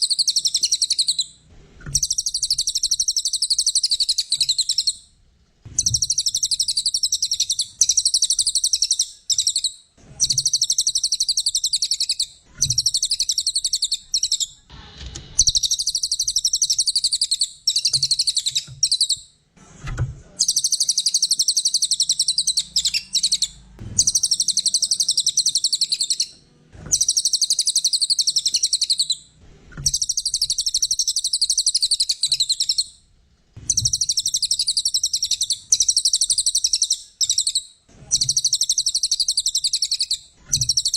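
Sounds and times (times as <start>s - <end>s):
songbird singing chattering song: 0.0s - 5.1s, 5.8s - 14.7s, 15.4s - 19.3s, 20.4s - 33.0s, 33.7s - 40.9s.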